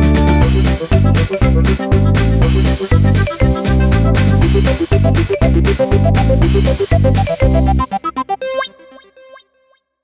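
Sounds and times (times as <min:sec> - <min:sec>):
electronic music with strong bass: 0:00.0 - 0:09.5.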